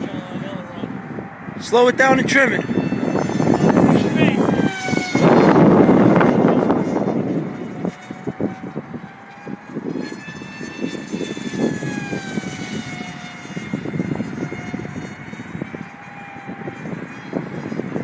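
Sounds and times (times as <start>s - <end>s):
model jet motor whine: 0.0s - 18.0s
wind buffeting microphone: 0.0s - 18.0s.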